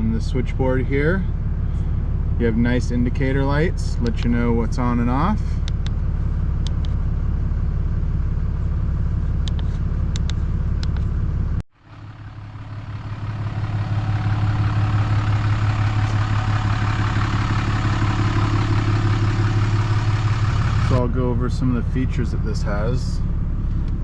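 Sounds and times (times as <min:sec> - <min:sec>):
pickup truck engine idling: 0:00.0 - 0:24.0.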